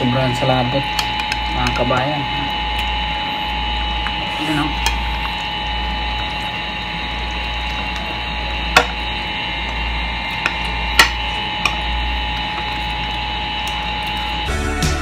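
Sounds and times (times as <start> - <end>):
machine hum and whine: 0.0 - 15.0.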